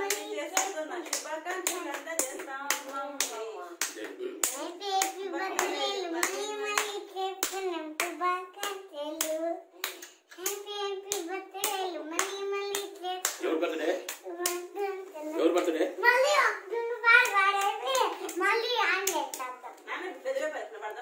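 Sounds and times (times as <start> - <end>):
girl singing: 0.0 - 2.8, 4.4 - 13.5, 14.1 - 19.7
hand claps: 0.0 - 14.8, 17.2 - 19.6.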